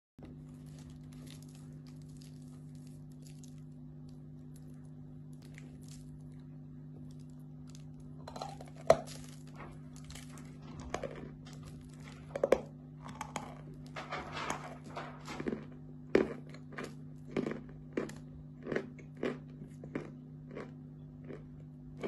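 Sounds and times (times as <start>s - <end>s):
crunchy chewing: 0.2s - 22.0s
steady low hum: 0.2s - 22.0s.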